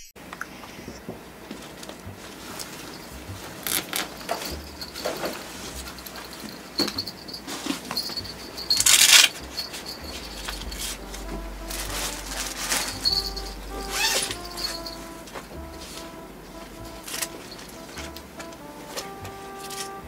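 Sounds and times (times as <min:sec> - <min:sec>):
rustling of handling: 0:01.4 - 0:16.2, 0:16.8 - 0:20.0.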